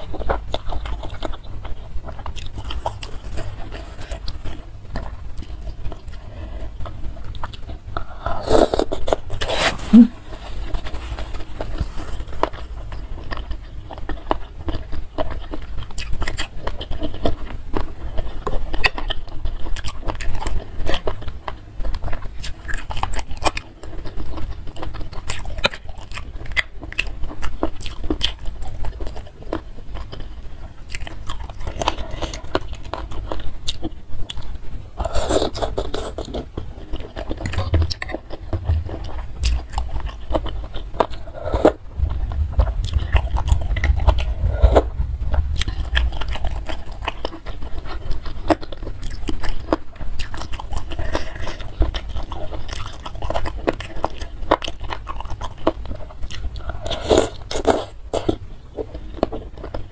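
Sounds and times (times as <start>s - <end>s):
wet chewing and smacking: 0.0s - 10.1s, 10.7s - 59.9s.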